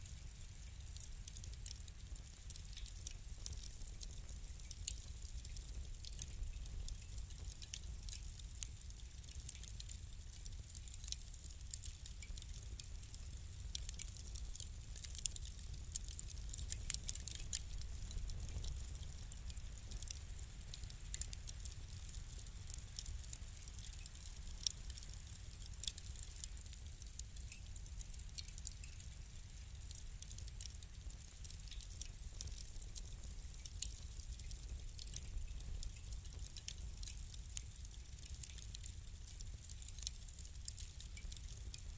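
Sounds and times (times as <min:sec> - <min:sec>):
low rumble of burning fire: 0:00.0 - 0:41.9
wood fire snaps and pops: 0:00.0 - 0:41.9.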